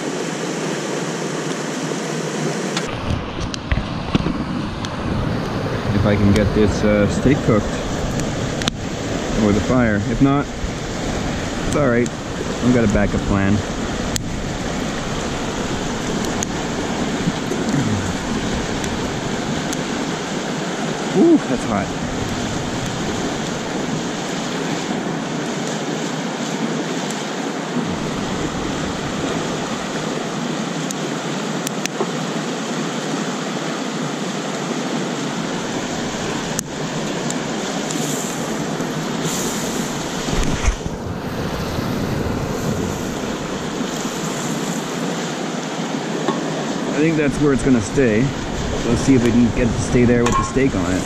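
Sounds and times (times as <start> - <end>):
campfire burning: 0.0 - 51.0
wind rumbling on microphone: 2.5 - 31.3, 35.0 - 51.0
fire popping: 2.8 - 31.0, 35.1 - 45.4, 46.0 - 51.0.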